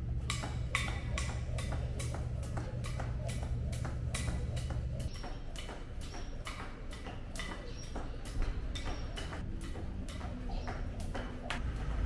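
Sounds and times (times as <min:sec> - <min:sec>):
jump rope slapping tiles: 0:00.0 - 0:12.0.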